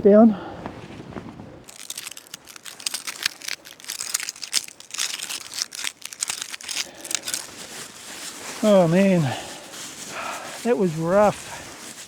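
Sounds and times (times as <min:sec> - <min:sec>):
nylon gear crinkling and rustling: 0:01.6 - 0:12.0.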